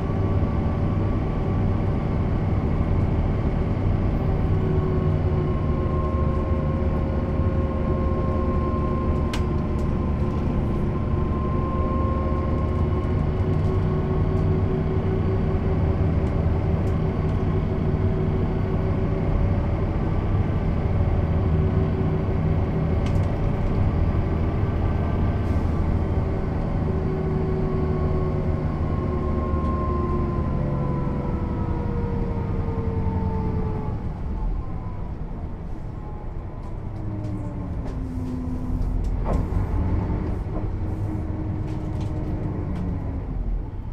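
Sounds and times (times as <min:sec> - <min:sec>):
bus diesel engine drone: 0:00.0 - 0:43.9.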